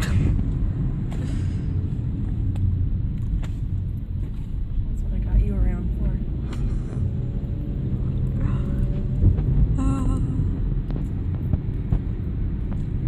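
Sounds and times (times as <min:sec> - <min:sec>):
car road rumble from cabin: 0:00.0 - 0:13.0.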